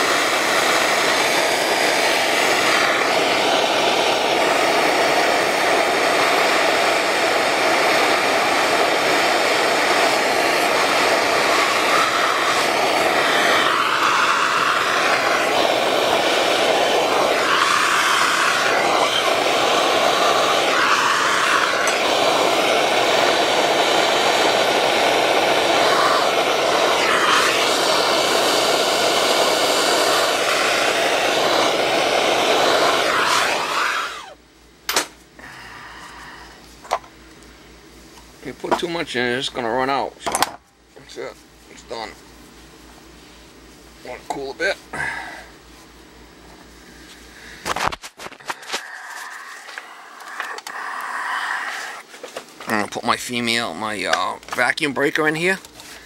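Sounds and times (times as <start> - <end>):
propane torch hissing: 0.0 - 34.4, 35.4 - 37.2, 43.1 - 56.0.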